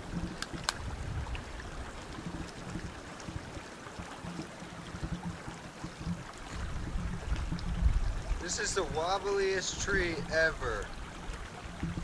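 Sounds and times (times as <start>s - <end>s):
wind rumble: 0.0s - 3.7s, 6.0s - 12.0s.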